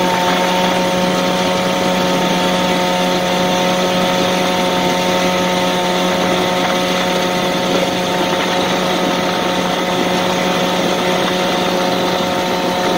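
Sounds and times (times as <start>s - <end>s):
outboard motor running: 0.0s - 12.9s
rushing water: 0.0s - 12.9s
wind noise: 0.0s - 12.9s.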